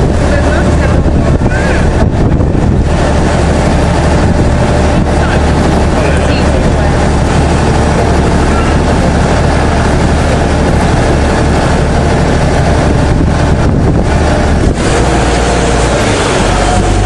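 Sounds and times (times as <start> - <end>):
ferry engine droning: 0.0 - 17.0
wind on microphone: 0.0 - 17.0.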